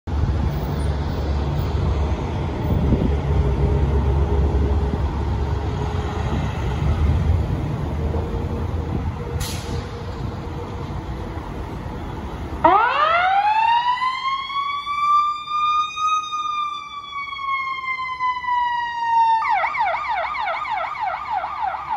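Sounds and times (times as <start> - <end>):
diesel engine rumbling: 0.1 - 18.6.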